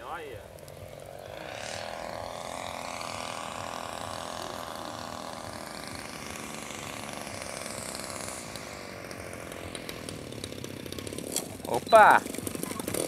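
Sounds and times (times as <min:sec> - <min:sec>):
model plane engine running: 0:00.0 - 0:13.0.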